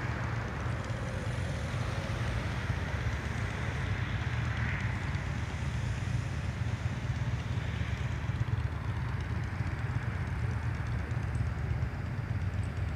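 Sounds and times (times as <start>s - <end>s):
motorcycles idling: 0.0s - 12.9s
road traffic: 0.0s - 12.9s.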